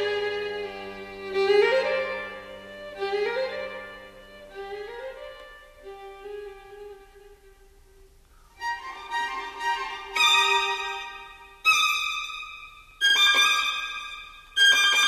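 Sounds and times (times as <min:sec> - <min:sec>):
slow melody of long notes: 0:00.0 - 0:15.0.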